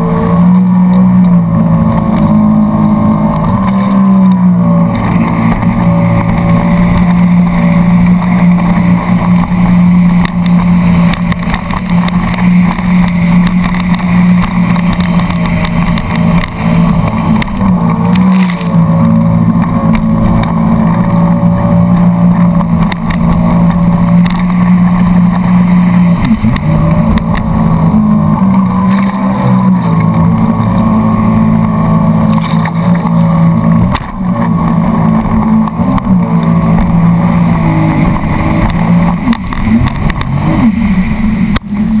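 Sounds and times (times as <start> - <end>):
motorboat engine running: 0.0 - 42.0
water splashing along hull: 0.0 - 42.0.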